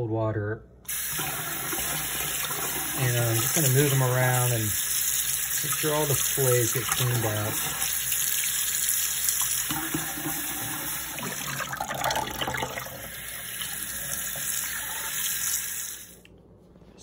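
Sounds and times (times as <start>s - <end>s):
tap water running into sink: 0.9s - 16.2s.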